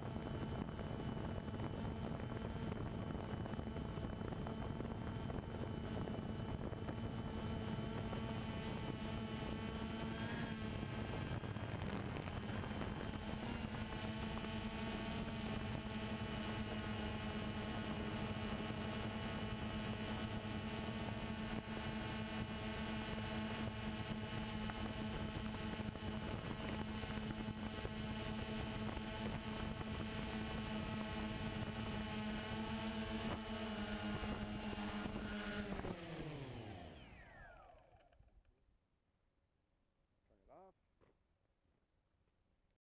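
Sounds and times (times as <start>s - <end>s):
drone propellers buzzing: 0.0s - 37.9s.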